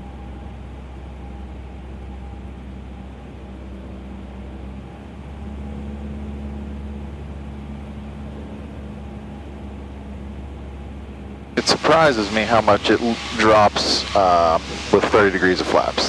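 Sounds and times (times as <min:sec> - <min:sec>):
light aircraft engine droning: 0:00.0 - 0:16.0.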